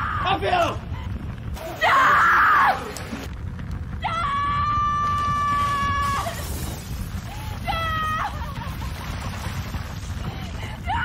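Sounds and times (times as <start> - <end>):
fire rumbling: 0.0 - 11.0.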